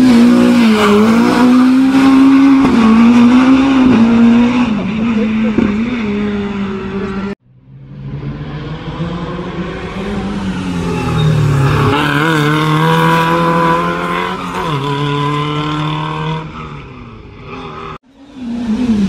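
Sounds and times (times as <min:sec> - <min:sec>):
rally car engine revving: 0:00.0 - 0:19.0
rally car engine rising: 0:00.0 - 0:19.0.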